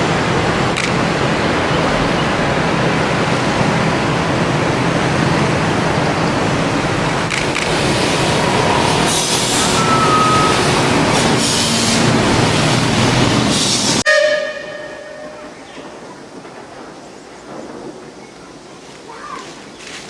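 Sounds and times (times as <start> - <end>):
steam locomotive passing: 0.0 - 20.0.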